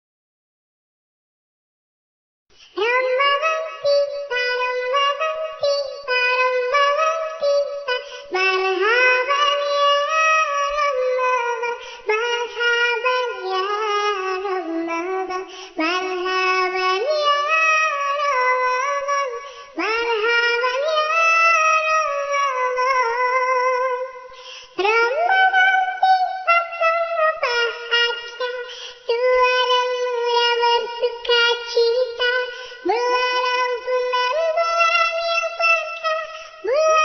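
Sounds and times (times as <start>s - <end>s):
high-pitched voice singing: 2.7s - 37.0s.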